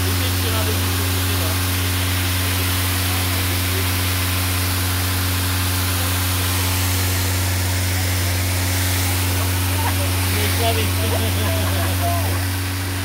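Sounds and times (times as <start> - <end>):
pump engine humming: 0.0 - 13.0
water jet hissing from hose: 0.0 - 13.0.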